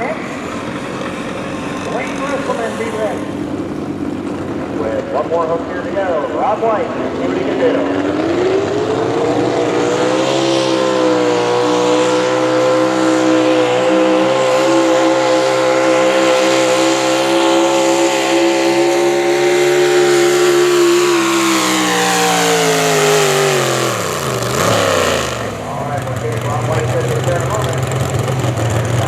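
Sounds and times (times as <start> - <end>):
vehicle engine at full throttle: 0.0 - 29.0.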